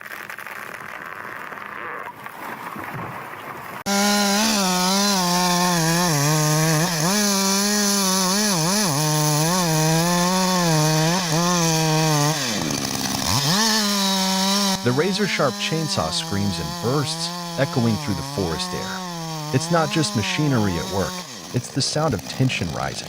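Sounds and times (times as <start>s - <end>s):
chainsaw cutting into tree trunk: 3.8s - 23.0s.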